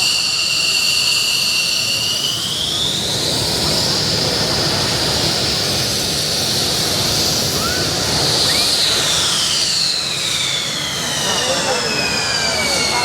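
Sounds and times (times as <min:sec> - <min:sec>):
jet engine with turbine whine: 0:00.0 - 0:13.0.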